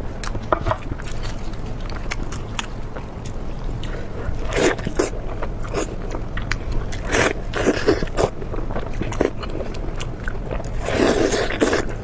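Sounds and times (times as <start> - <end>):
steady low hum: 0.0 - 12.0
chewing: 0.2 - 12.0.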